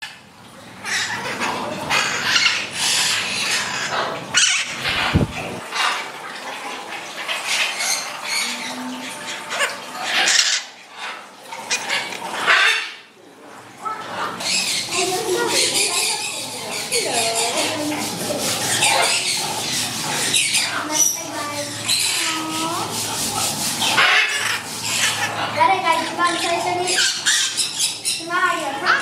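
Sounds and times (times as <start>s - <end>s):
birds squawking and screeching: 0.0s - 29.0s.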